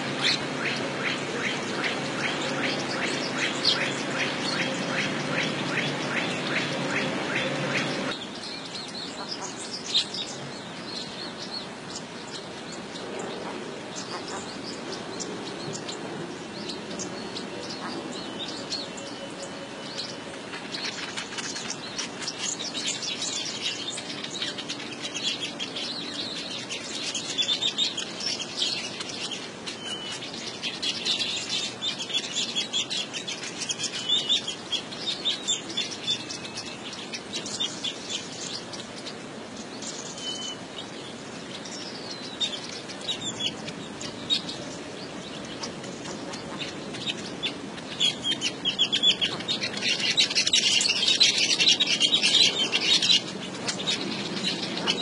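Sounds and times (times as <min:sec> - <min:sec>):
birds chattering: 0:00.0 - 0:55.0.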